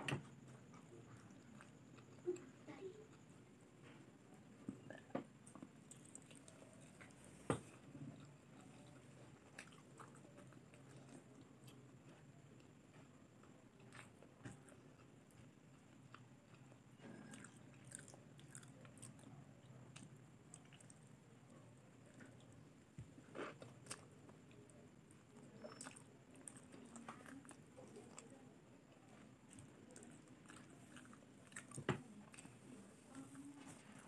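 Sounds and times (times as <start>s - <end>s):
person chewing food: 0.3s - 2.4s, 4.8s - 34.0s.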